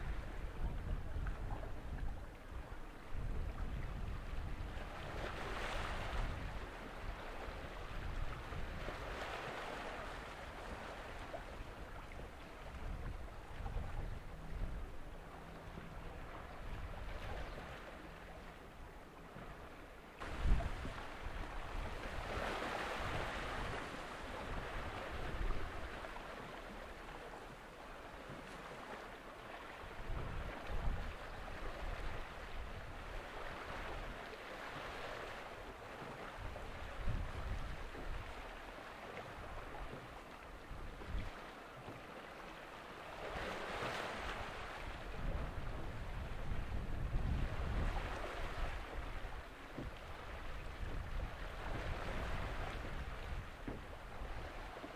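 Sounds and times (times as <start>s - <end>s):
wind rumbling on microphone: 0.0s - 29.1s, 29.7s - 42.0s, 43.0s - 54.9s
small waves washing on shore: 0.0s - 54.9s.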